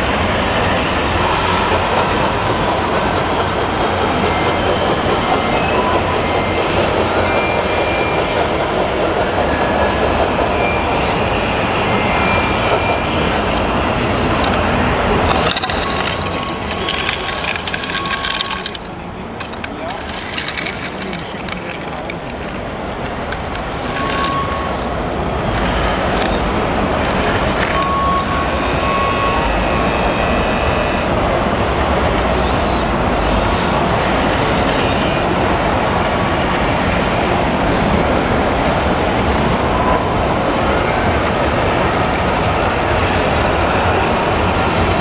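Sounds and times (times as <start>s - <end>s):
busy hall din: 0.0s - 45.0s
heavy machinery rumble: 0.0s - 45.0s.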